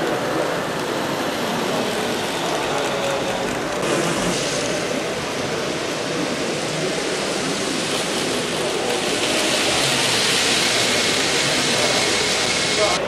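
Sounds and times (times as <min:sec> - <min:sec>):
faint indistinct voices: 0:00.0 - 0:13.0
hall hubbub: 0:00.0 - 0:13.0.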